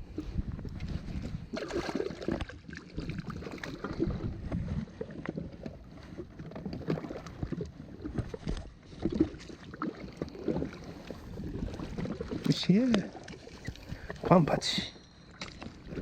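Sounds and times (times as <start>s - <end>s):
water sloshing against jet ski: 0.0s - 16.0s.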